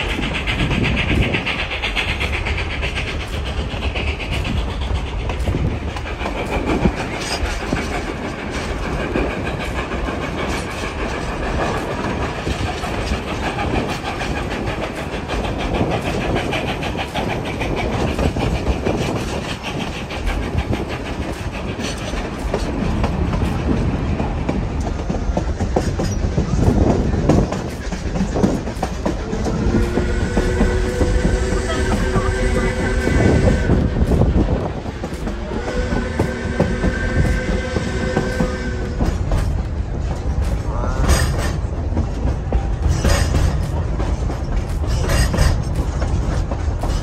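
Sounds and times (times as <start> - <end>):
train cars rumbling: 0.0 - 47.0
wheels clacking over rail joints: 0.0 - 47.0.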